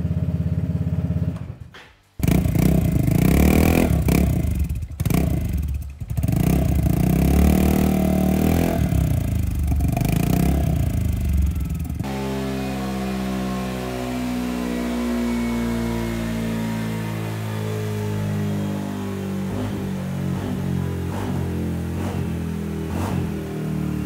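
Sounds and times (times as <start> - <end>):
scooter engine revving: 2.2 - 24.0.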